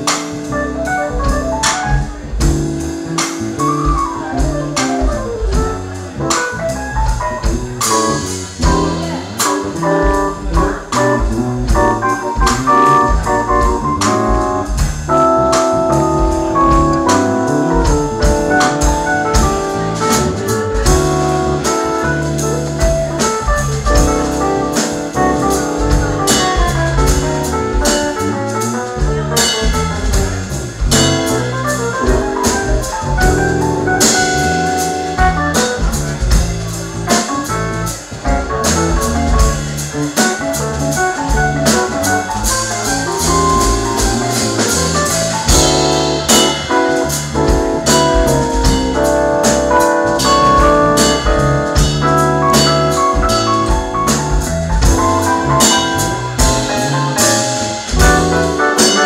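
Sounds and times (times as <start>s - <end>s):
jazz band playing: 0.0s - 59.0s.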